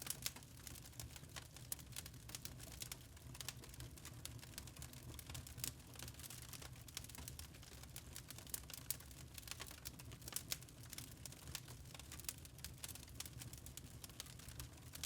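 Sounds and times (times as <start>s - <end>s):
faint low flame rumble: 0.0s - 15.0s
wood fire crackling: 0.0s - 15.0s.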